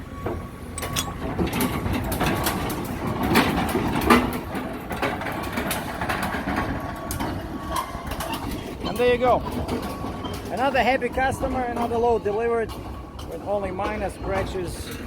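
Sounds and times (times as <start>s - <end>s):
steel creaking and clanking: 0.0s - 15.0s
telehandler engine under load: 0.0s - 15.0s.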